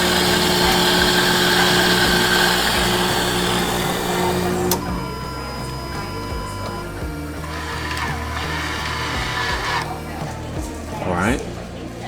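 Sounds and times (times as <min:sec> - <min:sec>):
pump switch click: 0:00.0 - 0:09.9
water pump humming and hissing: 0:00.0 - 0:11.0.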